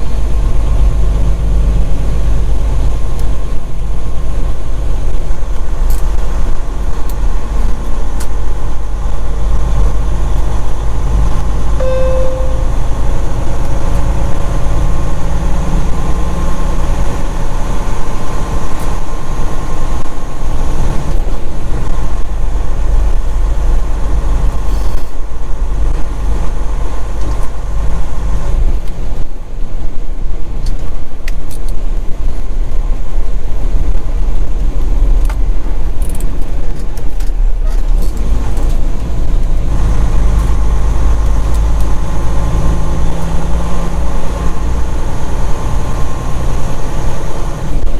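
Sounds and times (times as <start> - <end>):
diesel engine rumble inside cab: 0.0 - 47.9.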